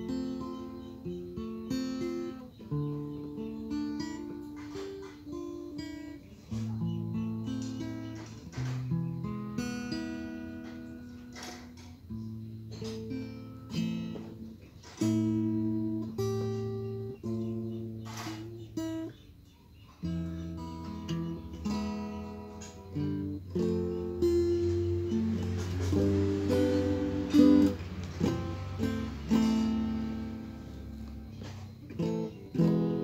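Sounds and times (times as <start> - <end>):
acoustic guitar strumming chords: 0.0 - 19.4, 20.0 - 33.0.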